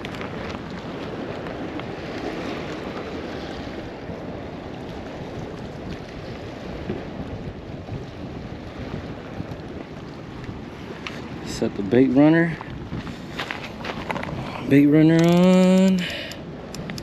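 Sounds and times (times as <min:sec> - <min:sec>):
open water: 0:00.0 - 0:17.0
wind buffeting microphone: 0:00.0 - 0:17.0.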